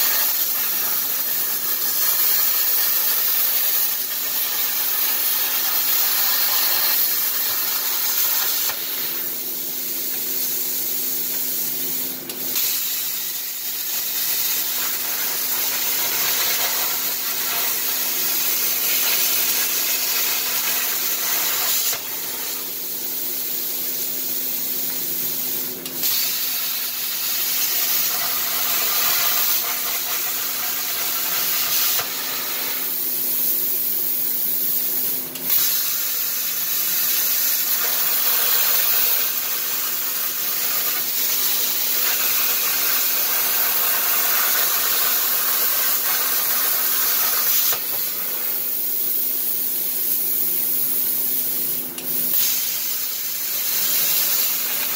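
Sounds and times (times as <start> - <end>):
plasma torch hissing: 0.0 - 54.9.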